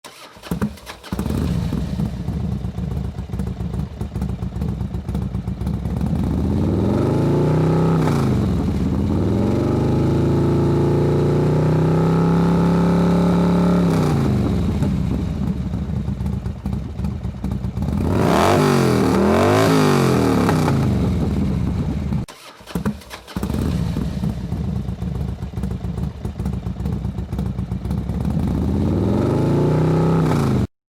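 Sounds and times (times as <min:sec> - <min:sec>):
motorcycle engine revving: 0:00.0 - 0:30.7.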